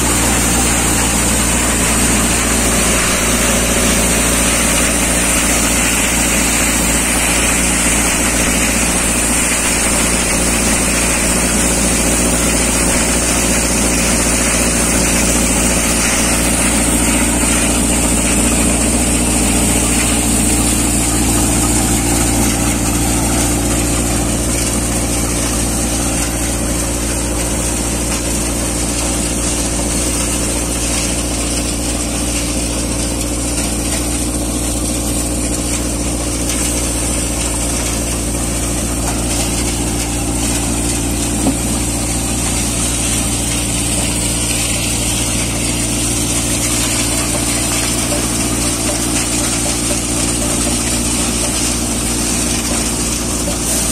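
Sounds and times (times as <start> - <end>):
thresher machine hum: 0.0 - 53.9
tractor engine running: 0.0 - 53.9.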